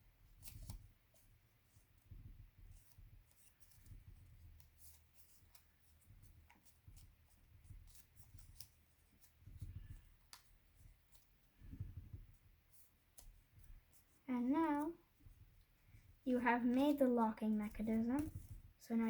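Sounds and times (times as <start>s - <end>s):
paper rustling and crinkling: 0.2s - 18.8s
soft handling bumps: 0.2s - 18.9s.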